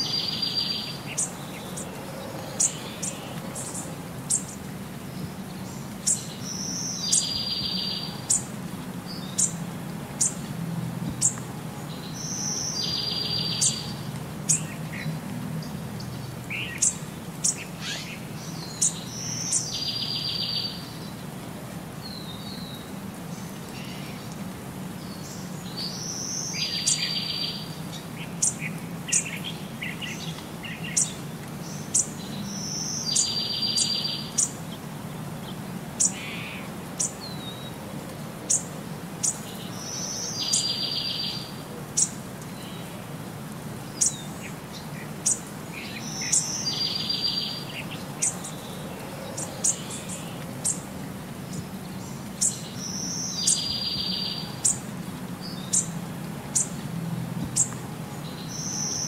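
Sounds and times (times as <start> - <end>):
birds chirping: 0.0 - 21.4, 22.0 - 59.0.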